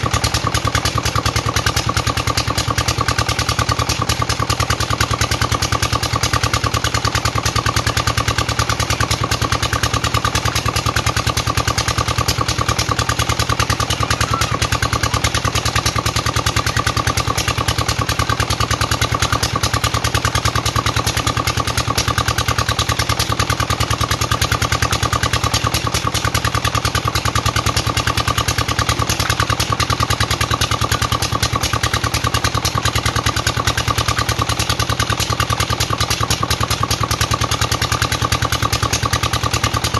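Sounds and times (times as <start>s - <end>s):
water pump engine chugging: 0.0s - 39.9s.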